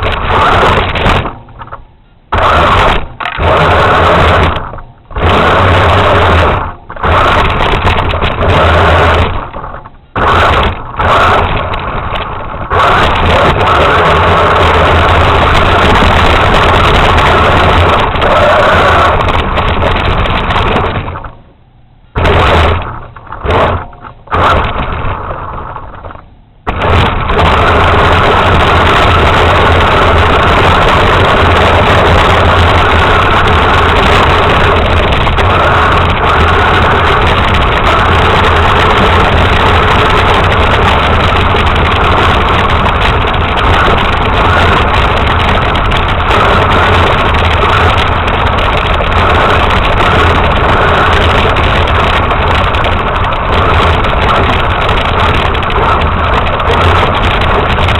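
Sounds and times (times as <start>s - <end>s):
toy truck motor: 0.0s - 21.4s, 22.2s - 57.9s.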